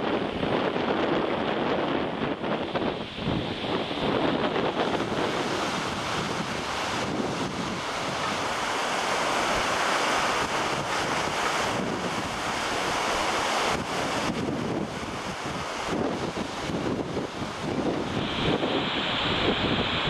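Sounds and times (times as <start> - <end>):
strong wind buffeting microphone: 0.0 - 20.0
surf breaking on shore: 0.0 - 20.0.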